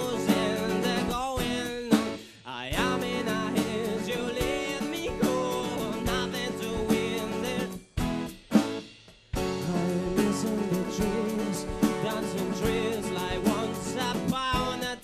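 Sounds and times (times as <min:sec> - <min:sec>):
live band playing country song: 0:00.0 - 0:08.8, 0:09.4 - 0:15.0.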